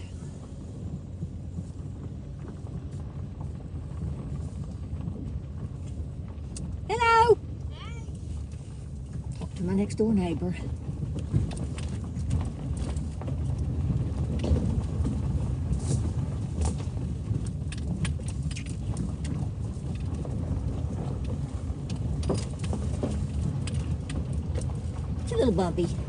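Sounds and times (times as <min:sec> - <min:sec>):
knocks and rattles on bumpy road: 0:00.0 - 0:26.0
low rumble of tyres and engine: 0:00.0 - 0:26.0.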